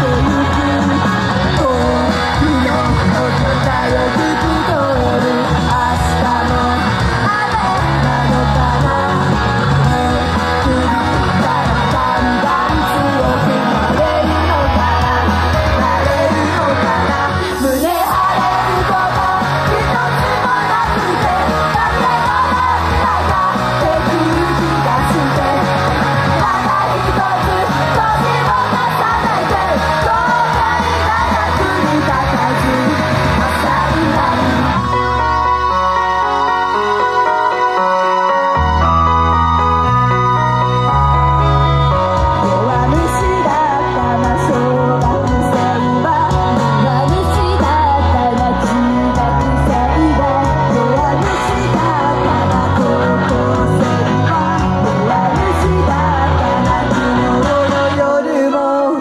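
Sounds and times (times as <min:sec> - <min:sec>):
female vocals singing: 0:00.0 - 0:35.9, 0:42.4 - 0:59.0
live band playing: 0:00.0 - 0:59.0.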